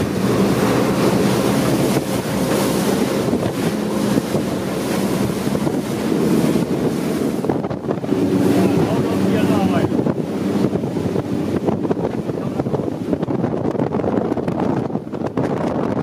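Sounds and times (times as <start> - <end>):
boat engines droning: 0.0 - 16.0
spray and wake along hull: 0.0 - 16.0
wind buffeting microphone: 0.0 - 16.0.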